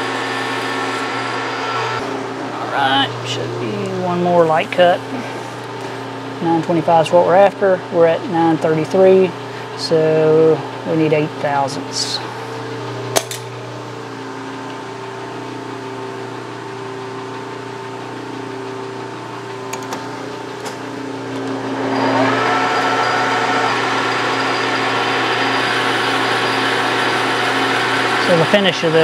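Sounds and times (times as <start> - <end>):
metal lathe gear whine: 0.0 - 12.9, 14.0 - 29.0
low machine hum: 0.0 - 29.0.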